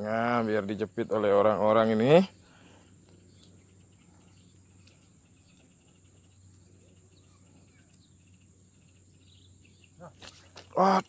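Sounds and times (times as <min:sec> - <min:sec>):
faint low hum: 0:00.0 - 0:10.8
high-pitched insect drone: 0:00.0 - 0:11.0.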